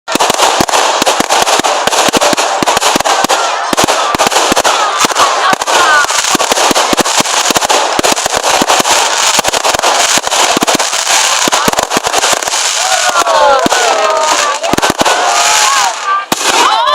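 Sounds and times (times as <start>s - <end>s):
fireworks bangs and crackles: 0.1s - 16.9s.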